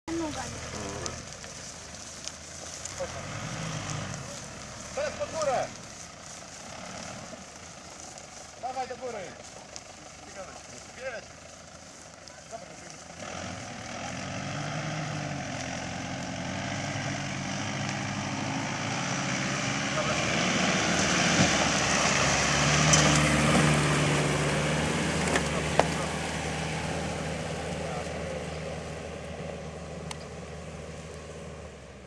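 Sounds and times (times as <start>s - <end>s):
vehicle engine under load: 0.0s - 32.0s.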